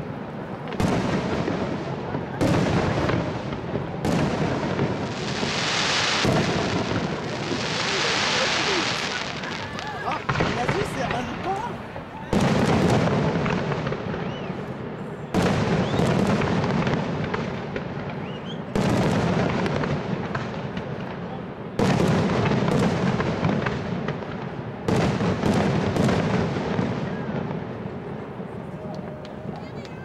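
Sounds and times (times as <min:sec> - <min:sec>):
firework crackles: 0:00.0 - 0:30.0
firework shells booming: 0:00.6 - 0:29.6.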